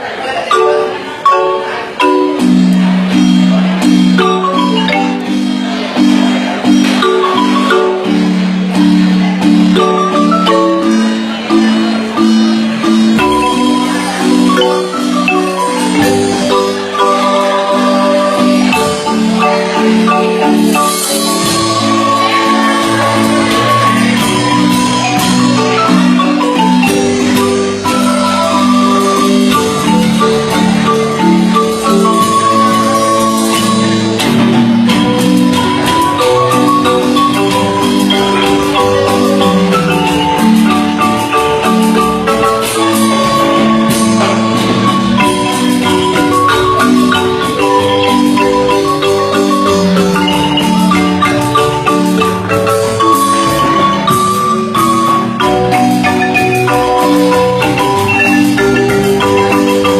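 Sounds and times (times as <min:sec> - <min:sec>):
marimba playing a tune: 0:00.0 - 0:59.9.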